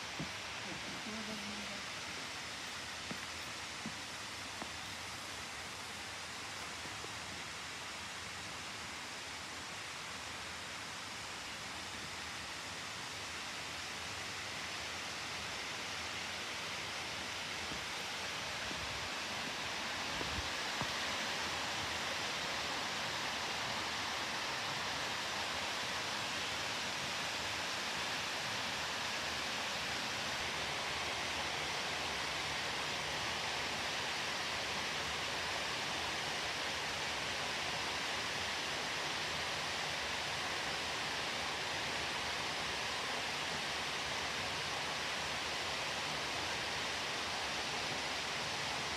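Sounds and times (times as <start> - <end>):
stream water rushing: 1.7 - 48.9.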